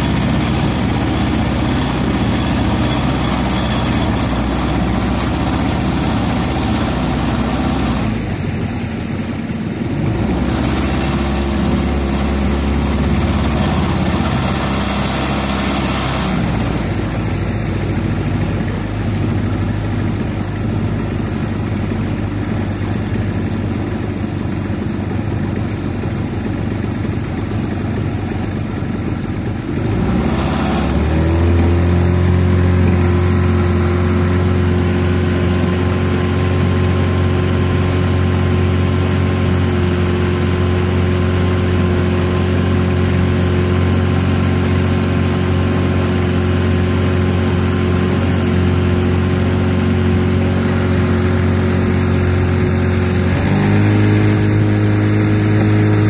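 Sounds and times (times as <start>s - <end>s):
boat engine running: 0.0s - 56.0s
wash of water: 0.0s - 56.0s.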